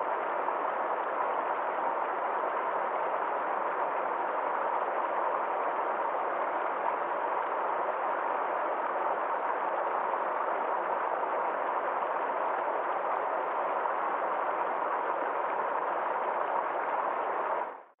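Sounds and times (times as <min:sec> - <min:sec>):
stream rushing over rocks: 0:00.0 - 0:17.6.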